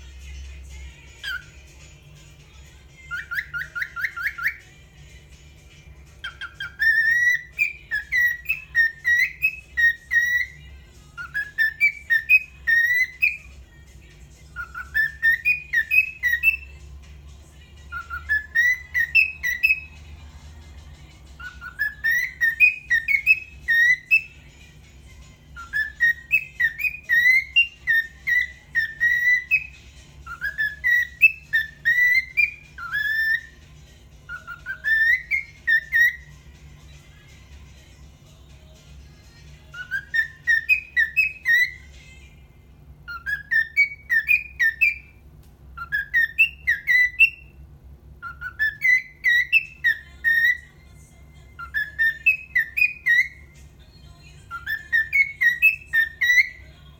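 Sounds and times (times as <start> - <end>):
cockatiel whistling a tune: 1.1 - 13.6, 14.3 - 37.8, 39.1 - 42.0, 43.0 - 50.8, 51.6 - 53.6, 54.5 - 56.6.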